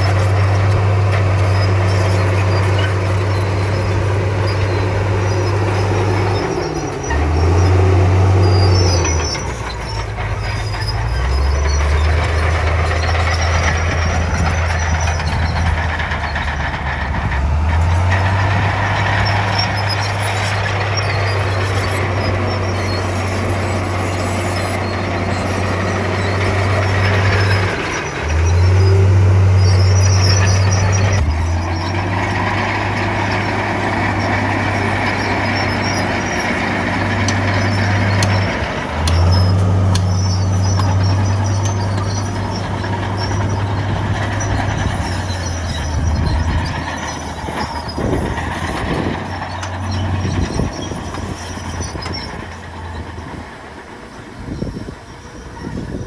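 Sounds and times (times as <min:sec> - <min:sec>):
bulldozer diesel engine: 0:00.0 - 0:56.0
clattering noise: 0:07.0 - 0:52.6.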